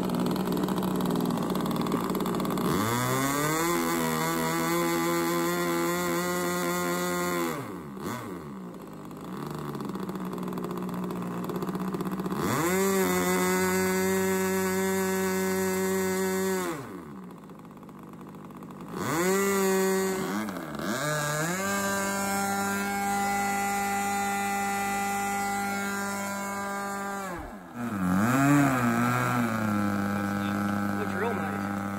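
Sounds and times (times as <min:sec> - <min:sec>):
model airplane engine revving: 0:00.0 - 0:31.9.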